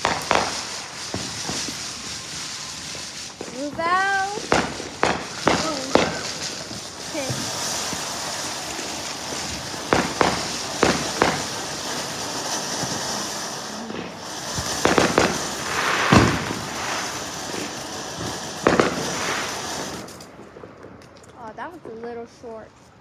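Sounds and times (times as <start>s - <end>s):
firework pops: 0.0s - 2.2s, 2.8s - 21.5s
firework hissing sparks: 0.0s - 22.6s.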